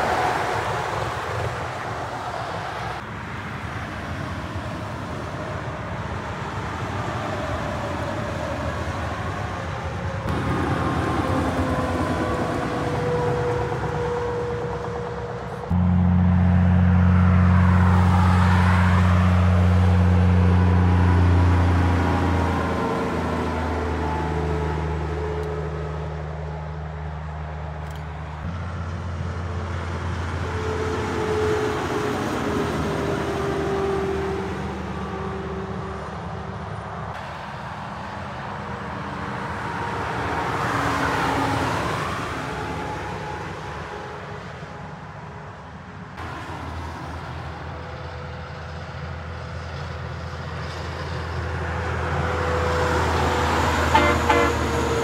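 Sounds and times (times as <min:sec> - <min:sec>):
heavy trucks passing: 0:00.0 - 0:55.0.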